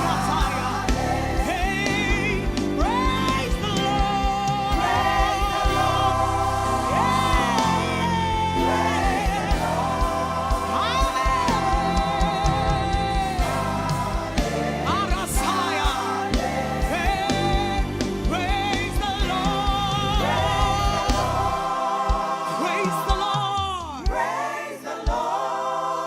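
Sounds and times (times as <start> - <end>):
band with drum and bass beat: 0.0 - 24.2
lead voice singing with vibrato: 0.0 - 26.0.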